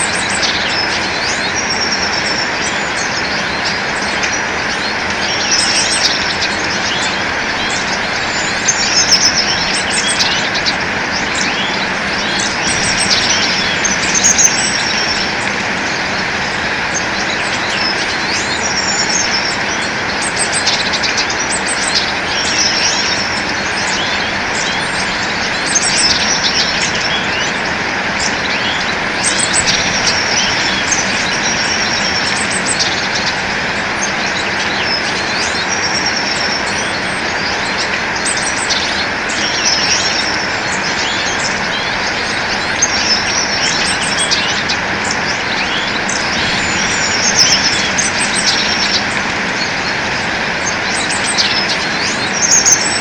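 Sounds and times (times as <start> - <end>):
small birds chirping: 0.0 - 53.0
steady rushing noise: 0.0 - 53.0.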